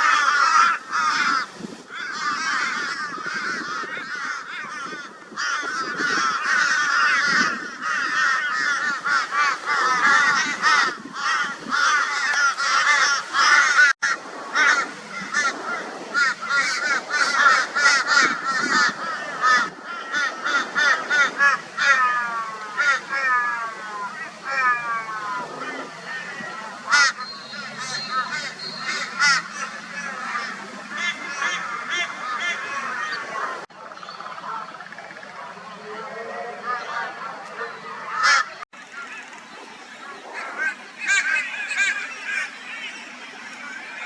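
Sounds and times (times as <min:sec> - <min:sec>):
crows cawing: 0:00.0 - 0:33.2, 0:38.1 - 0:44.0.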